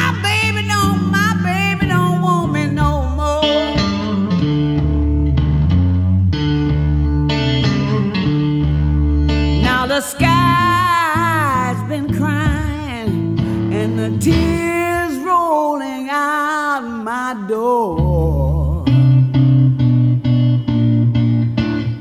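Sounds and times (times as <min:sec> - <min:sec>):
slow blues band music: 0:00.0 - 0:16.4, 0:18.0 - 0:22.0
lead guitar bending notes: 0:00.0 - 0:22.0.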